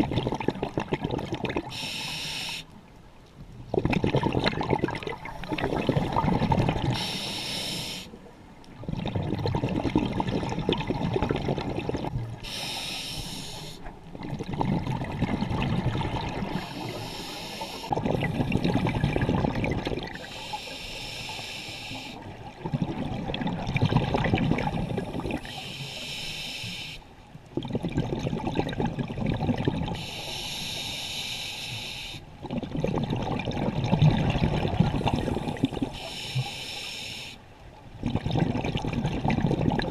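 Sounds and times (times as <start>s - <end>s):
exhaled bubbles underwater: 0.0s - 2.2s, 3.6s - 26.0s, 27.4s - 30.2s, 32.3s - 36.5s, 37.6s - 39.9s.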